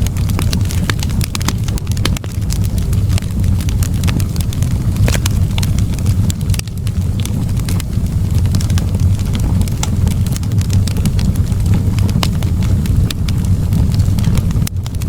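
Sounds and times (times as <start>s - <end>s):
low roar of flames: 0.0s - 15.0s
wood fire crackling and popping: 0.0s - 15.0s.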